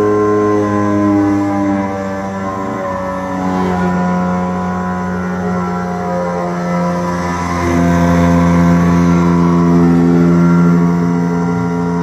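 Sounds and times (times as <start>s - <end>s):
wood router motor whine: 0.0s - 12.0s.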